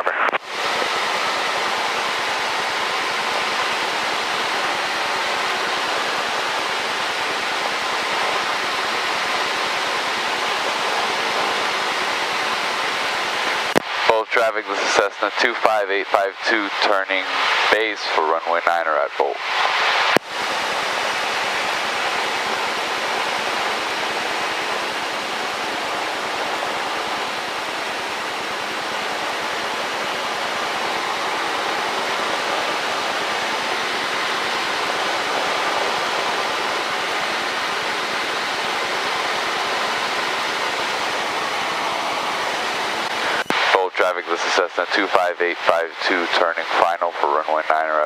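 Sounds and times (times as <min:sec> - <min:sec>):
aircraft cockpit engine hiss: 0:00.0 - 0:48.0.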